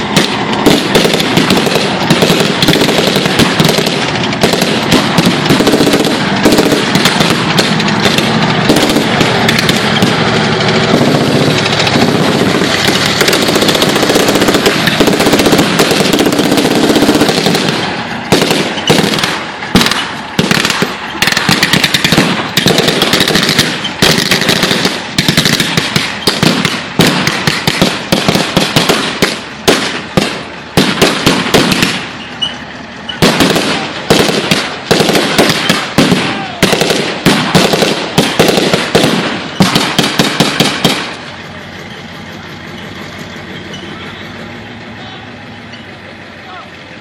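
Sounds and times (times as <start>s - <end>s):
rapid sharp bangs and cracks: 0.0s - 32.2s, 33.1s - 41.4s
steady low noise: 0.0s - 47.0s.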